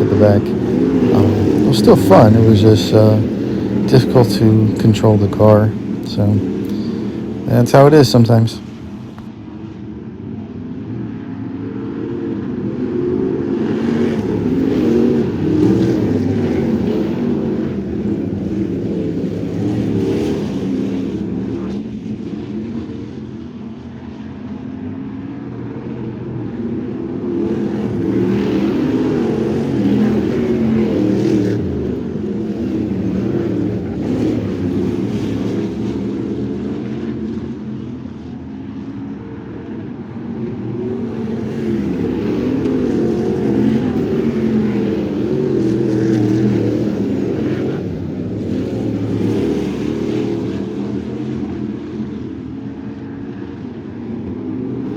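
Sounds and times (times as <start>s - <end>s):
racing car engine: 0.0s - 54.9s.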